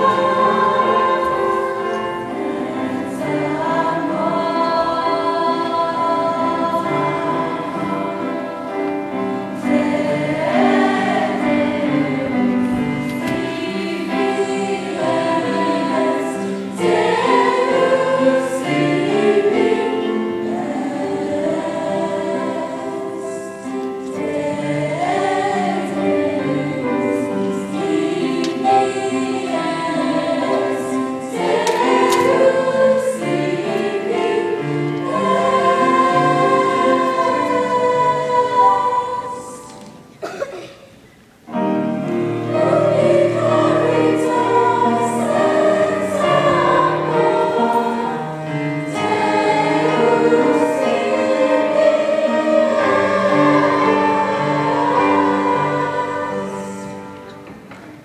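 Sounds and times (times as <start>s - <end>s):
choir singing sustained chords: 0.0s - 40.3s, 41.5s - 57.6s.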